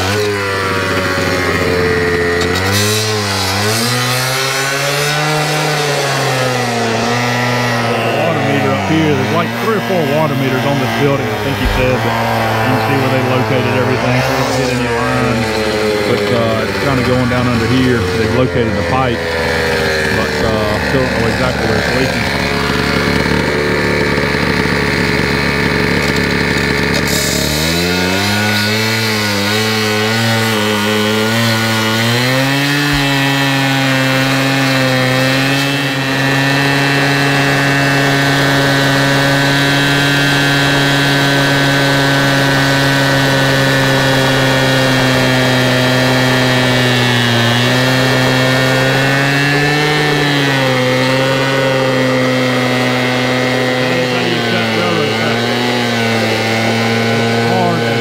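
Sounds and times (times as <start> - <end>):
cut-off saw cutting steel rail: 0.0 - 58.0.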